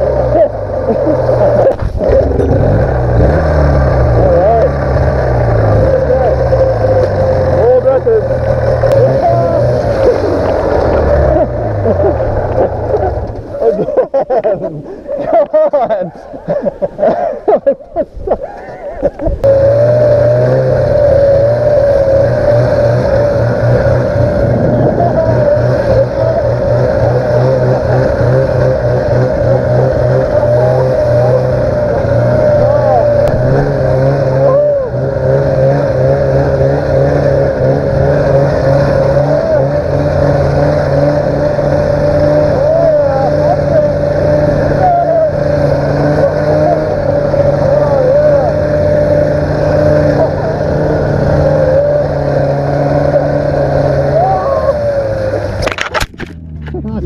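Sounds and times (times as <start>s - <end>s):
snowmobile engine running: 0.0s - 17.6s, 18.4s - 57.0s.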